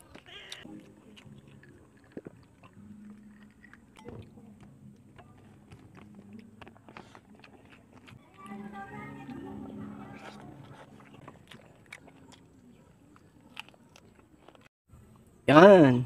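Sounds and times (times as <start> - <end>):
close-up chewing: 0.0 - 15.2.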